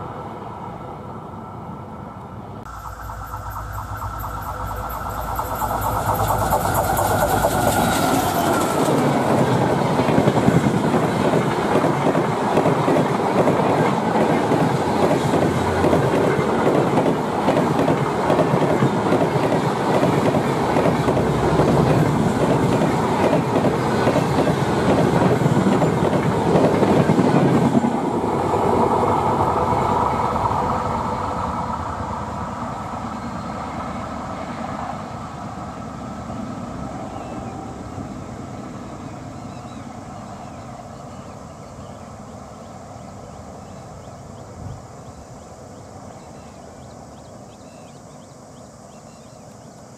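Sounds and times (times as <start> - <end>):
train passing at speed: 0.0 - 49.9.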